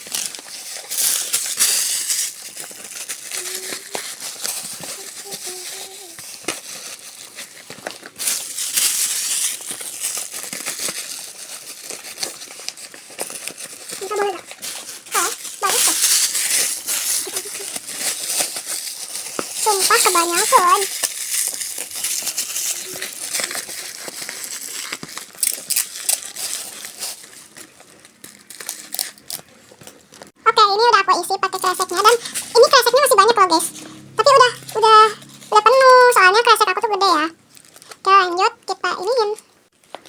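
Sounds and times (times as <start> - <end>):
plastic bags crinkling: 0.0 - 40.0.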